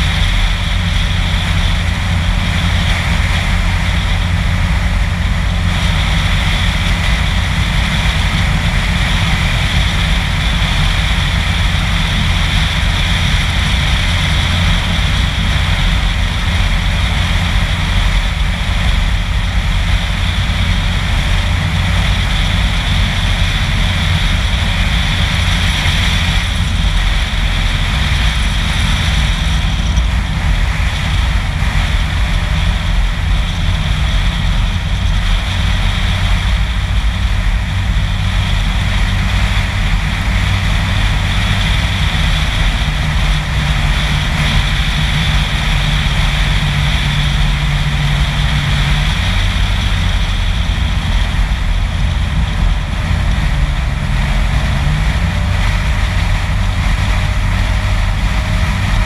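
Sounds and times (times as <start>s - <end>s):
heavy low rumble: 0.0s - 59.0s
low engine hum: 0.0s - 59.0s
wind and tyre noise: 0.0s - 59.0s.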